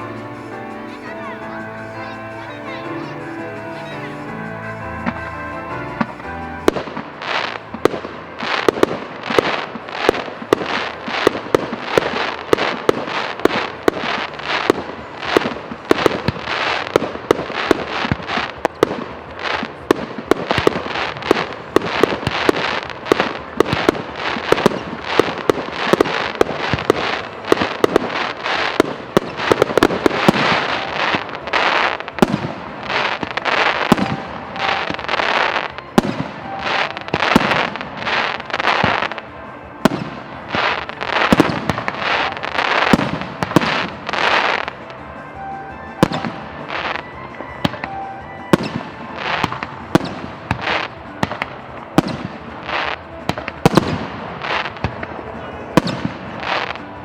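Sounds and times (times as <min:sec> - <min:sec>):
fireworks banging: 0:00.0 - 0:57.0.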